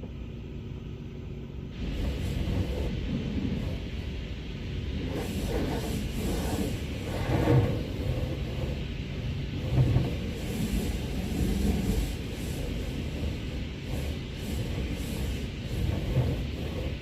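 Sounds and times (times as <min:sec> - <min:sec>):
low rumble: 0:00.0 - 0:17.0
rubbing and wiping car: 0:01.7 - 0:17.0.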